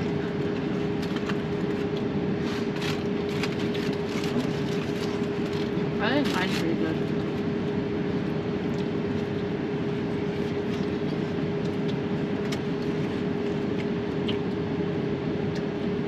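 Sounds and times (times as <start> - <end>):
vehicle hum inside cabin: 0.0 - 16.0.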